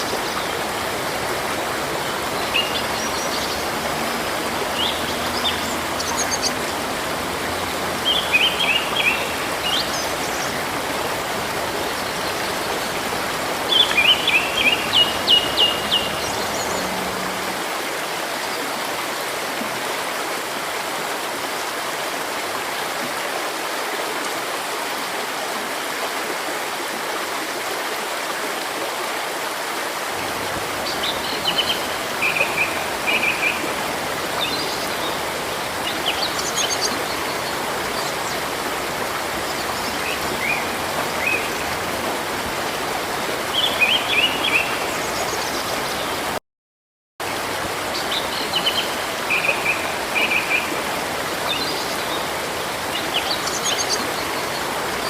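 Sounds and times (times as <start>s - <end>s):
stream running: 0.0s - 46.4s, 47.2s - 55.0s.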